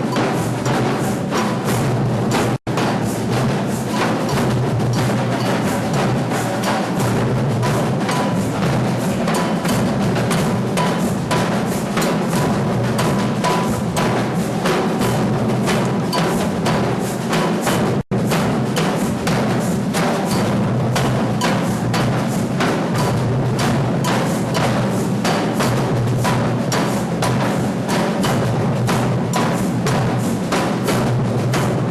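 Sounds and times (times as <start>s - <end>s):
percussion group drumming: 0.0s - 31.9s.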